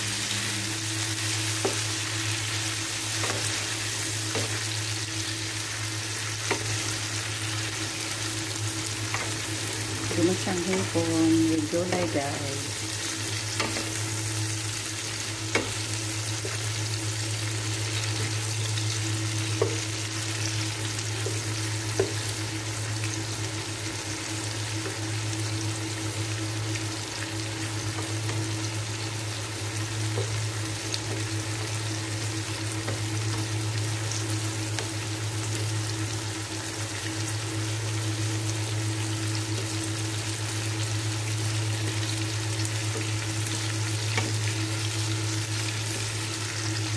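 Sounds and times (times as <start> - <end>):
shrimp sizzling in a frying pan: 0.0 - 46.9
steady low hum: 0.0 - 46.9.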